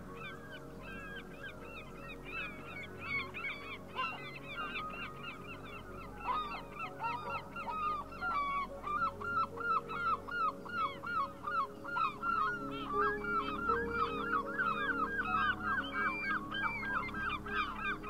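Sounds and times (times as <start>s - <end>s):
flock of birds honking: 0.0s - 18.0s.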